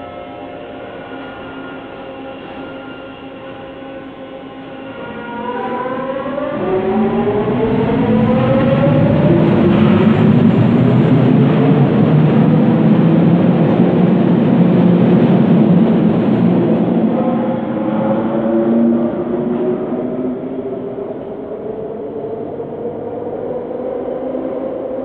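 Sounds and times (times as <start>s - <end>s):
train cars rumbling: 0.0s - 25.0s.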